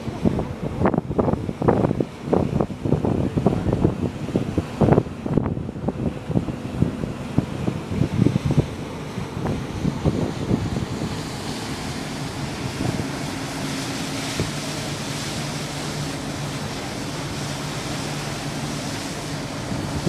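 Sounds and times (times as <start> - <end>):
rushing wake and spray: 0.0 - 20.0
ship engines humming: 0.0 - 20.0
wind buffeting microphone: 0.0 - 20.0.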